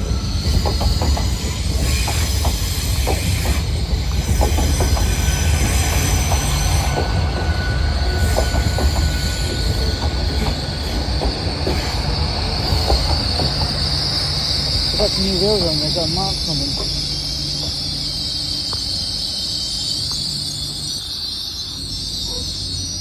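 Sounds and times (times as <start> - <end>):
high squealing whine: 0.0 - 23.0
train rumbling on rails: 0.0 - 23.0.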